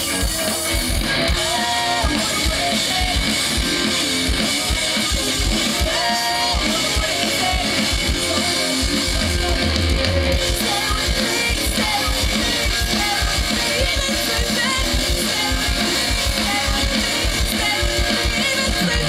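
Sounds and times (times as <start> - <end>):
bass guitar: 0.0 - 19.0
drum kit beat: 0.0 - 19.0
electric guitars strumming: 0.0 - 19.0.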